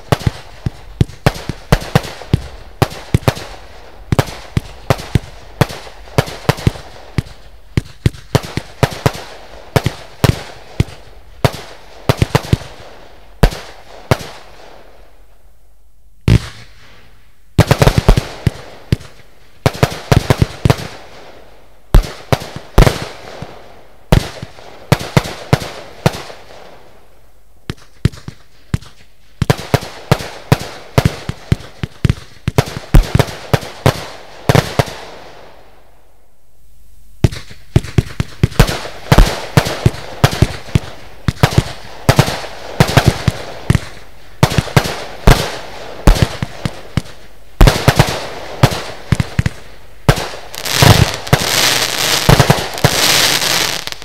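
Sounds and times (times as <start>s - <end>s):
firework shots bursting with bangs: 0.0s - 15.0s, 16.2s - 26.8s, 27.7s - 35.6s, 37.2s - 54.0s.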